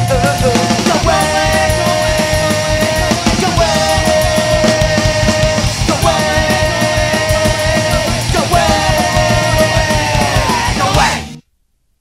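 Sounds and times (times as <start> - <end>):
distorted electric guitars: 0.0 - 11.4
drums: 0.0 - 11.4.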